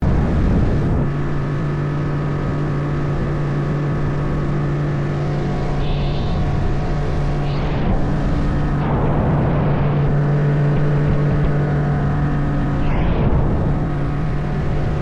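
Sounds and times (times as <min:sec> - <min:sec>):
outboard motor humming: 0:00.0 - 0:15.0
wind noise: 0:00.0 - 0:15.0
rushing water: 0:00.7 - 0:15.0.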